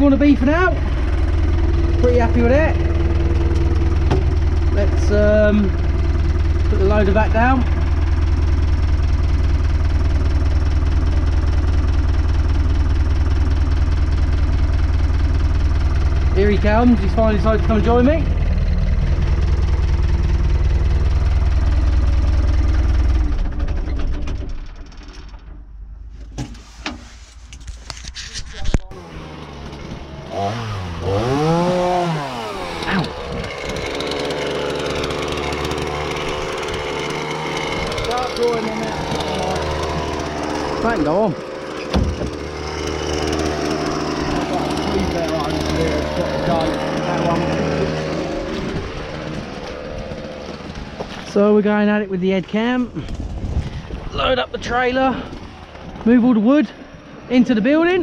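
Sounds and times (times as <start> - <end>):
tractor diesel engine idling: 0.0 - 26.0, 28.7 - 58.0.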